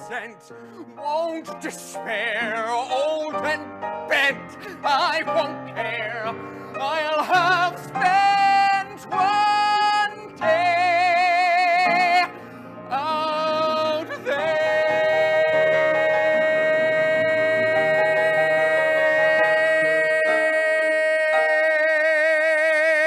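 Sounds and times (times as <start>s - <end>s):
man singing: 0.0s - 23.0s
piano accompaniment: 0.0s - 23.0s.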